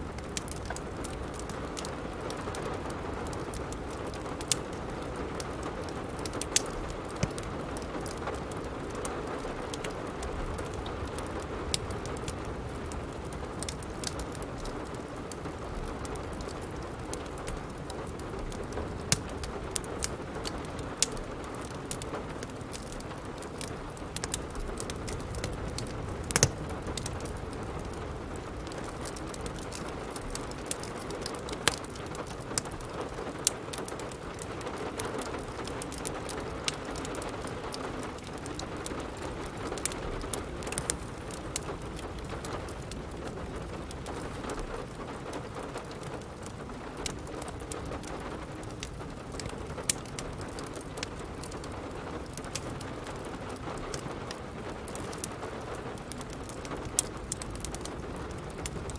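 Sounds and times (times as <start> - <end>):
steady rain: 0.0 - 58.9
wood fire crackling and popping: 0.0 - 58.9.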